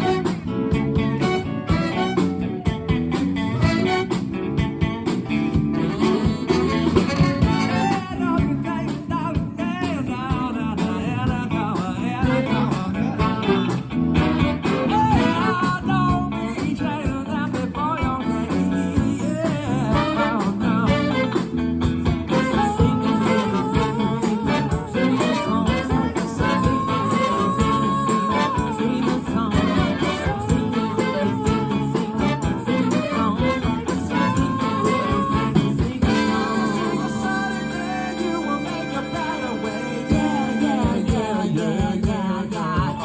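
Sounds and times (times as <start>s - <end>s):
wavering lead line: 0.0s - 8.6s, 11.8s - 15.9s, 18.9s - 41.8s
band playing blues music: 0.0s - 43.0s.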